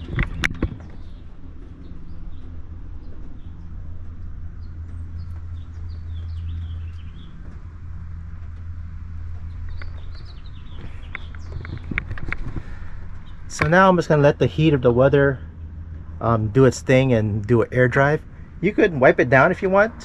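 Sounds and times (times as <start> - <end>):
small birds chirping: 0.0 - 19.9
steady low hum: 0.0 - 20.0.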